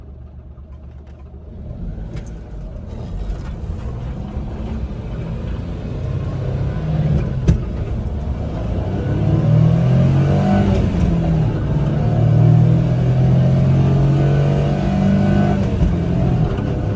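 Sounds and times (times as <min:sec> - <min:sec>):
small truck engine pulling away: 0:01.0 - 0:16.9.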